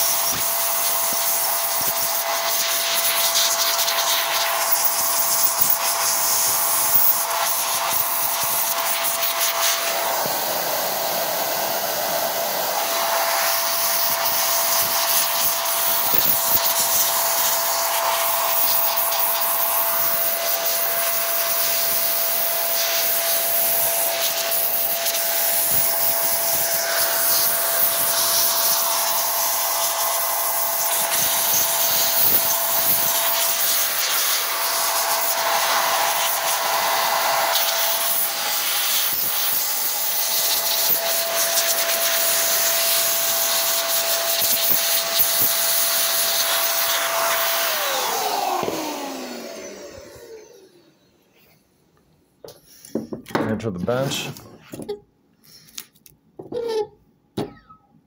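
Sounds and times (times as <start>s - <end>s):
electric blower whooshing: 0.0s - 51.2s.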